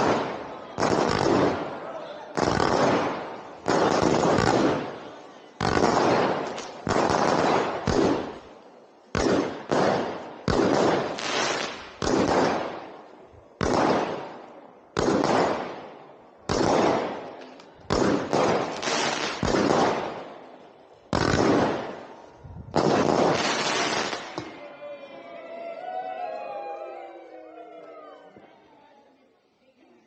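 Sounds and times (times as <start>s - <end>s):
fireworks bangs: 0.0s - 24.7s.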